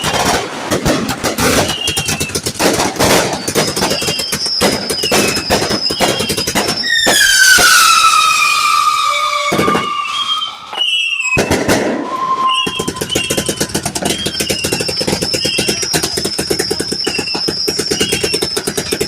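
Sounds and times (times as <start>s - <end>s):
short high firework whistles: 0.0s - 0.3s, 1.4s - 19.0s
fireworks crackling: 0.0s - 19.0s
firework whistle falling in pitch: 3.2s - 19.0s.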